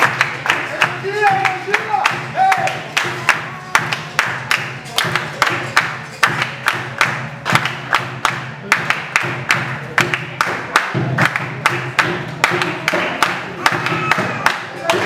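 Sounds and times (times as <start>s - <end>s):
people clapping a steady beat: 0.0s - 15.0s
percussion: 0.0s - 15.0s.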